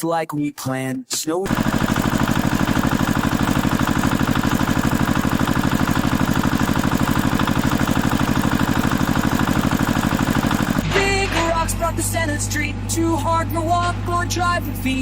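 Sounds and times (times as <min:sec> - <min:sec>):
truck engine idling: 0:01.5 - 0:15.0.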